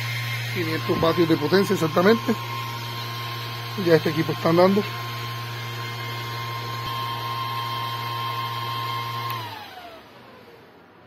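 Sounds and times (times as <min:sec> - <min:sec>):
transmitter hum: 0:00.0 - 0:09.8
cooling fan whirring: 0:00.0 - 0:11.0.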